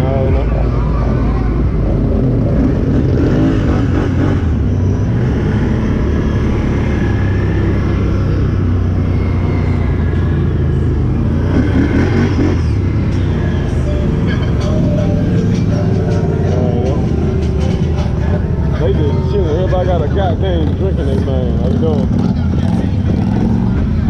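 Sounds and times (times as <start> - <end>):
ride noise: 0.0 - 24.0
vehicle engine running steadily: 0.0 - 24.0.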